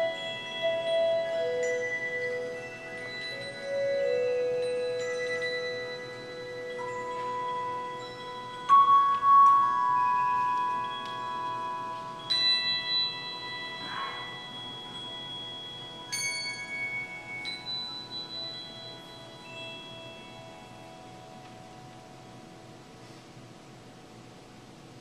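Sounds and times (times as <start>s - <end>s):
handbell choir ringing chords: 0.0s - 23.1s.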